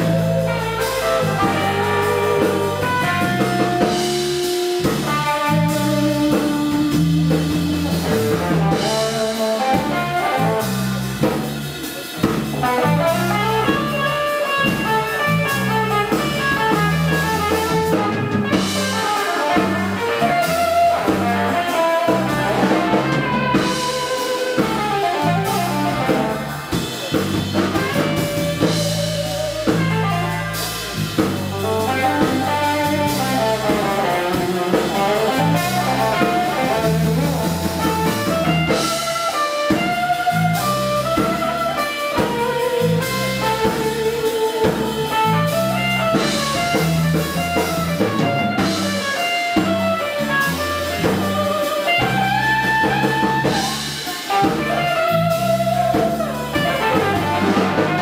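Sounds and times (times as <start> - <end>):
drum kit: 0.0 - 58.0
electric bass: 0.0 - 58.0
electric guitar lead lines: 0.0 - 58.0.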